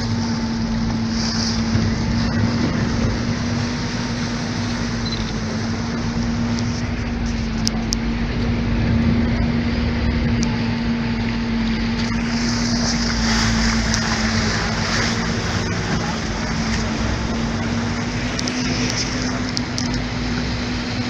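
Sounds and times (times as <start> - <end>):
motorboat engine humming: 0.0 - 21.0
water rushing along hull: 0.0 - 21.0.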